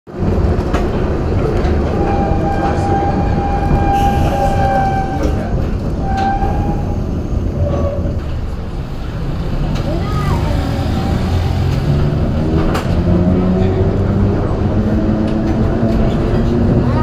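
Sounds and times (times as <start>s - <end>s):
streetcar rumbling on rails: 0.1s - 17.0s.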